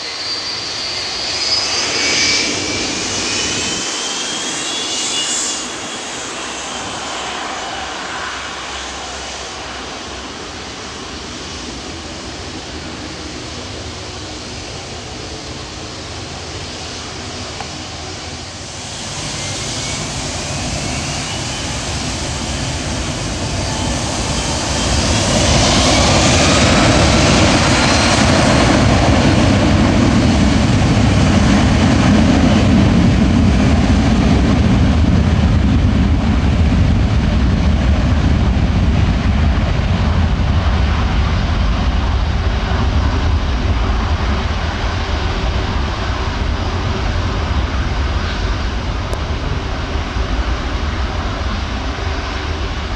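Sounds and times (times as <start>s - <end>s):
jet engines spooling up: 0.0s - 52.9s.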